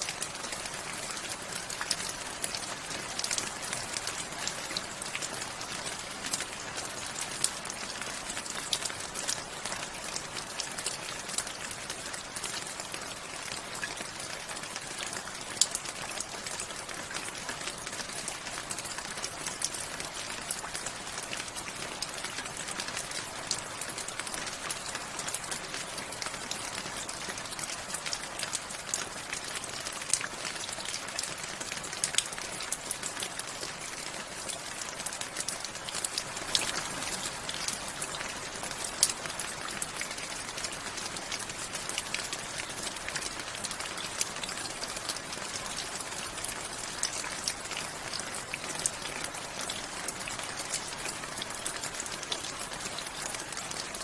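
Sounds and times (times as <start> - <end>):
rain hissing and pattering: 0.0 - 54.0.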